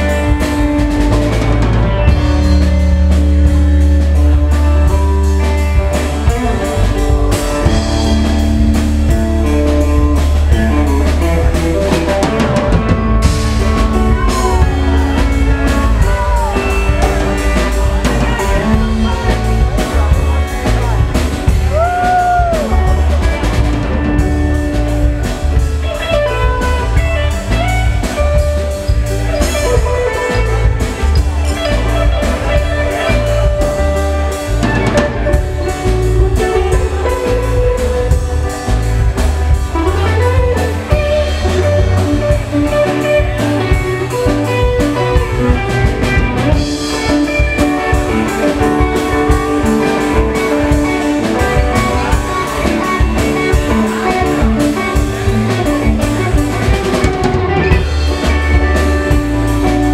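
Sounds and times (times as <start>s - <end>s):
heavy bass line: 0.0s - 59.9s
live band playing: 0.0s - 59.9s
steady drum beat: 0.0s - 59.9s.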